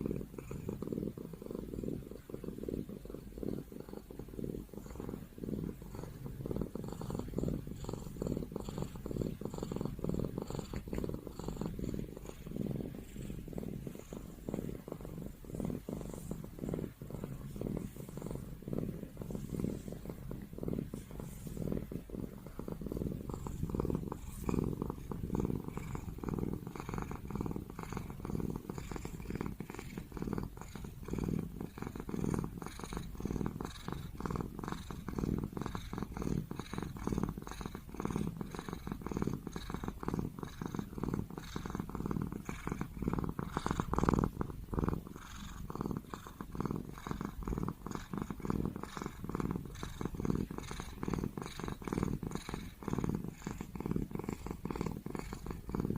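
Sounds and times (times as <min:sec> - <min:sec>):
cat purring: 0:00.0 - 0:55.9.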